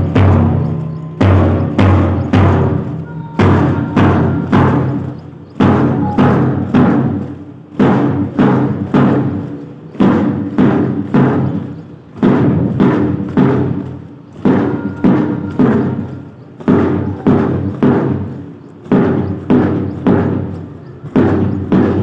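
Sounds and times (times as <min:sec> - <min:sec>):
marching drum beat: 0:00.0 - 0:22.0.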